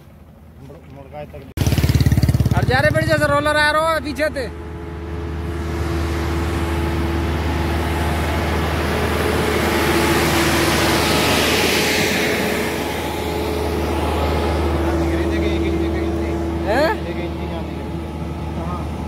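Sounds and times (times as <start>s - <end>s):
asphalt roller diesel engine: 0.0s - 19.0s.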